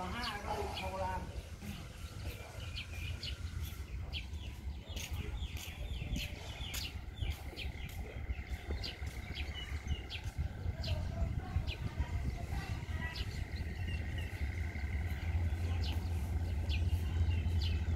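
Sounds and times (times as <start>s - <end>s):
birds chirping: 0.0s - 17.9s
steady low rumble: 0.0s - 17.9s.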